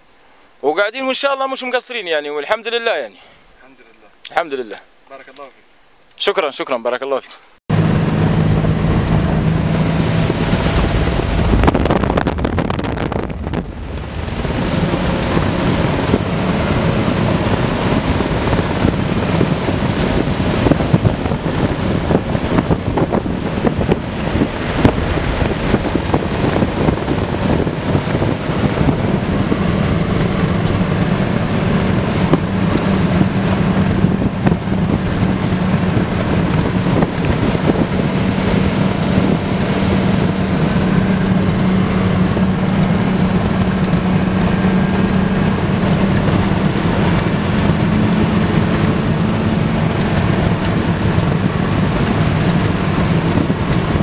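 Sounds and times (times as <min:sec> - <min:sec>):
engine drone: 0:07.7 - 0:54.0
wind buffeting microphone: 0:07.7 - 0:54.0.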